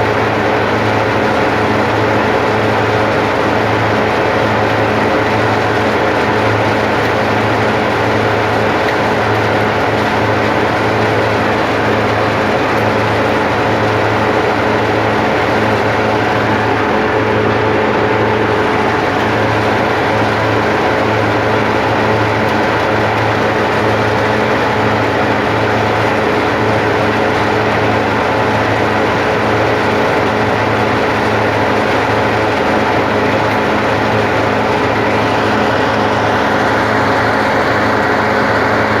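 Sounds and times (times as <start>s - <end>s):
husking machine droning and rattling: 0.0s - 39.0s.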